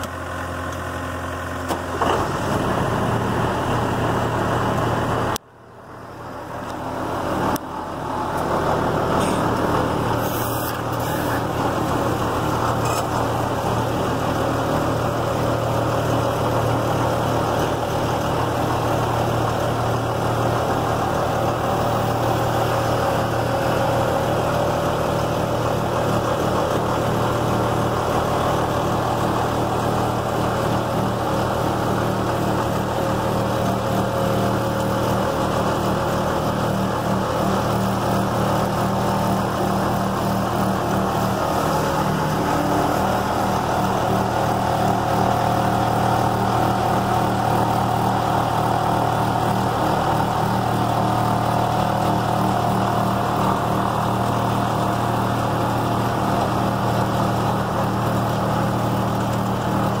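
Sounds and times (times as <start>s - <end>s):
grinder engine running: 0.0s - 60.0s.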